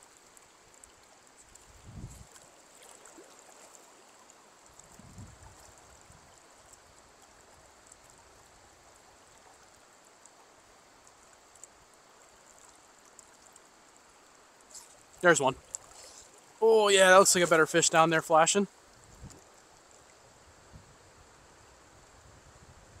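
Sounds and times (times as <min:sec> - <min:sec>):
river water flowing: 0:00.0 - 0:22.2.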